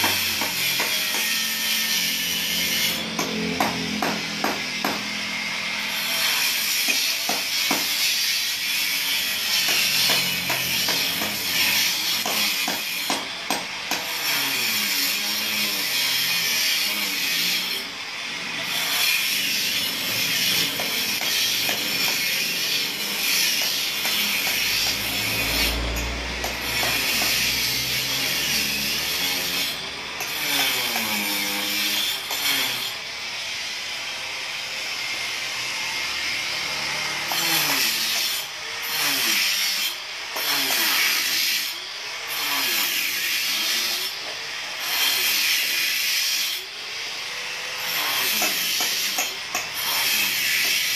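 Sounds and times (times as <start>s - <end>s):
angle grinder cutting concrete: 0.0s - 50.9s.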